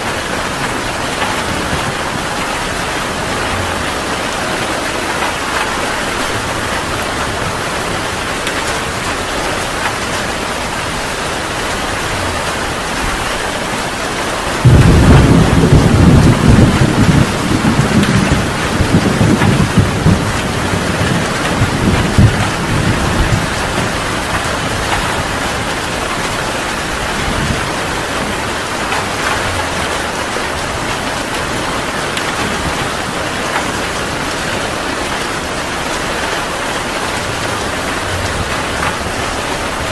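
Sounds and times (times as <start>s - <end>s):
heavy rain falling: 0.0s - 39.9s
thunder clap and rumble: 0.0s - 39.9s.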